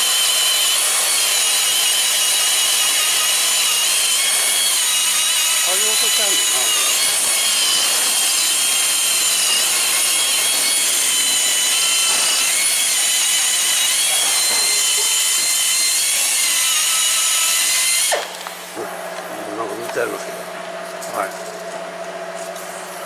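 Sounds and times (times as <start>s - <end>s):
wire brush grinder whining: 0.0s - 20.3s.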